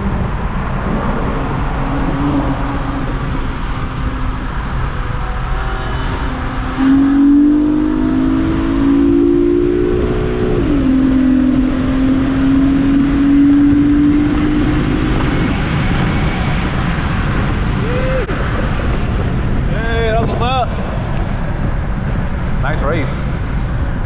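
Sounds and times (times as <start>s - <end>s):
car engine accelerating: 0.0s - 24.0s
road noise: 0.0s - 24.0s.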